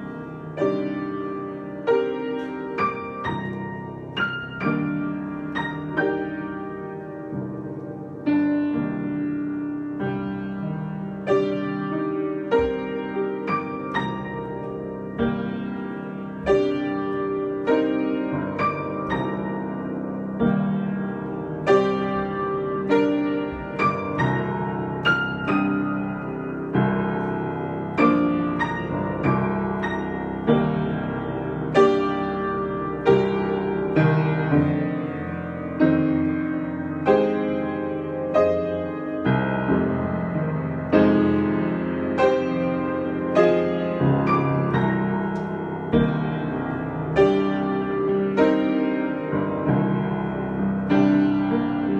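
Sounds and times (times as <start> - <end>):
solo piano: 0.0 - 51.9.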